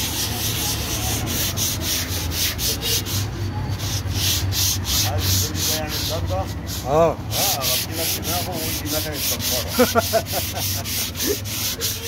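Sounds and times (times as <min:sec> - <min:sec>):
sandpaper rasping strokes: 0:00.0 - 0:12.0.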